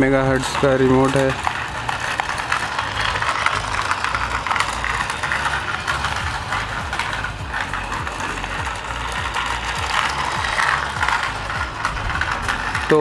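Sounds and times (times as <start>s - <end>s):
plastic gears rattly clicking: 0.0s - 13.0s
toy electric motor whirring: 0.0s - 13.0s.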